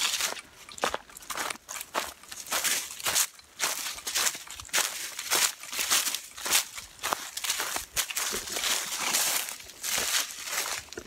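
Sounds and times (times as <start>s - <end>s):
footsteps in dry leaves: 0.0s - 11.0s.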